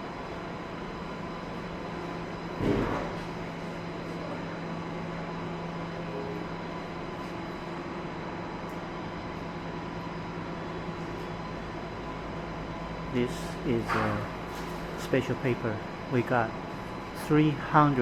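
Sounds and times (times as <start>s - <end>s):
machinery and ventilation hum: 0.0s - 18.0s.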